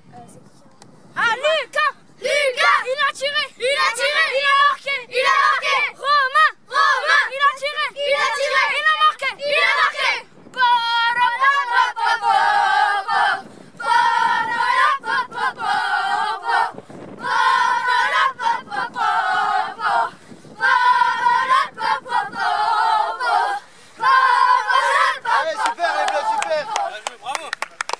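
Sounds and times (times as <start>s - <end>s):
boys chanting together: 1.4s - 27.0s.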